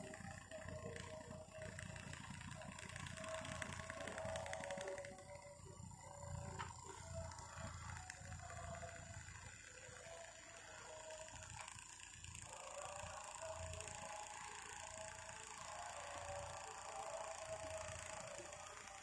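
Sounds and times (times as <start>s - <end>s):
thin steady whine: 0.0s - 19.0s
toy fans whirring: 0.0s - 19.0s.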